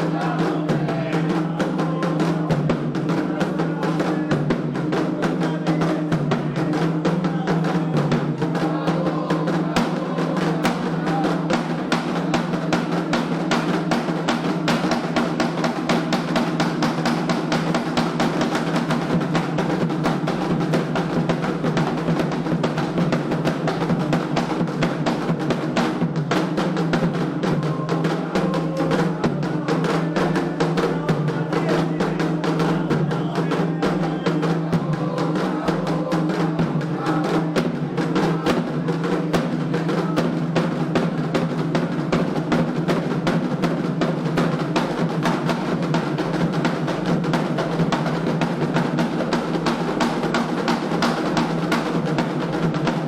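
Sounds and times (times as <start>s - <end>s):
hand drums playing fast rhythm: 0.0s - 53.0s.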